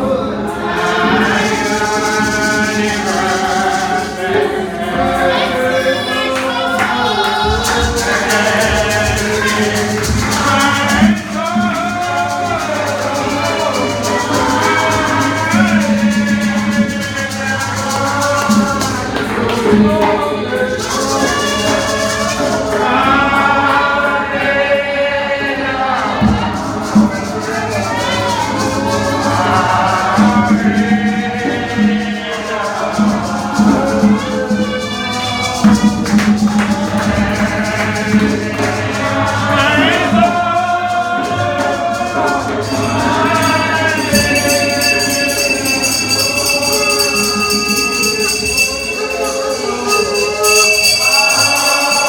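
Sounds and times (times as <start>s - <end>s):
congregation singing gospel: 0.0s - 52.0s
tambourine shaken: 0.0s - 52.0s.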